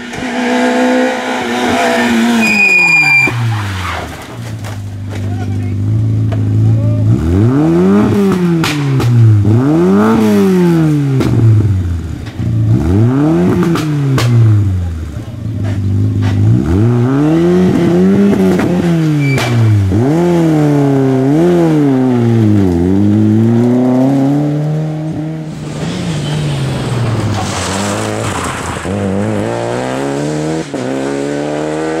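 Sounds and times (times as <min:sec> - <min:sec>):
rally car engine accelerating: 0:00.0 - 0:32.0
rally car engine revving: 0:00.0 - 0:32.0.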